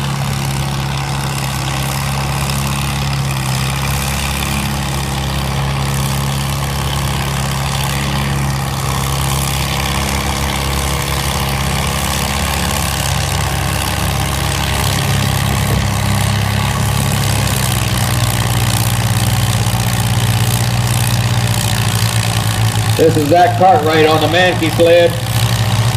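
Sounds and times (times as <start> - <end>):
tractor engine running: 0.0 - 25.9.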